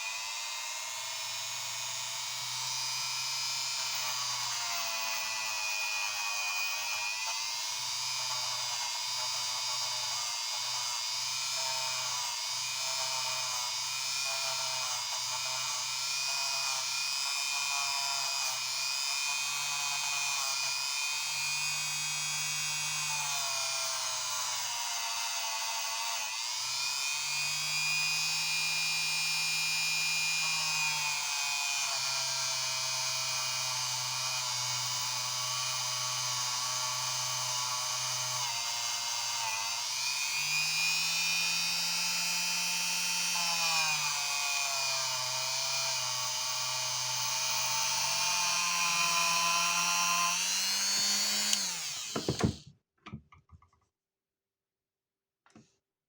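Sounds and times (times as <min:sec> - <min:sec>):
rotary tool whining: 0:00.0 - 0:52.7.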